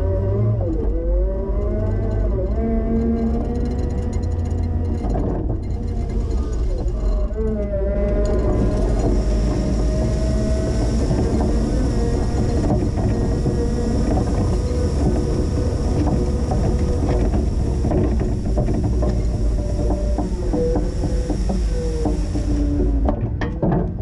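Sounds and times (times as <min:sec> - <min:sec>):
forklift engine rumble: 0:00.0 - 0:24.0
hydrostatic drive whine: 0:00.0 - 0:24.0.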